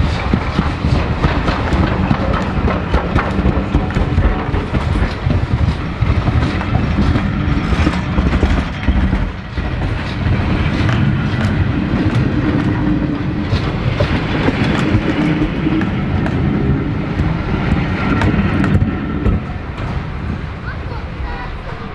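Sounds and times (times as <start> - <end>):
train wheels rumbling: 0.0 - 21.9
wheels clicking on track: 0.0 - 21.9.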